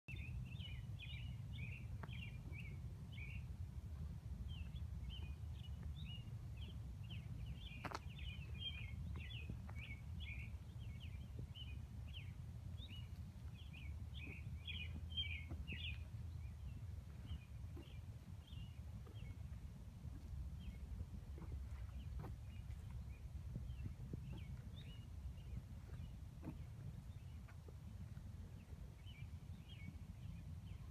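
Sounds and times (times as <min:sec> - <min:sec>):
low steady rumble: 0:00.1 - 0:30.9
small birds chirping: 0:00.1 - 0:30.9.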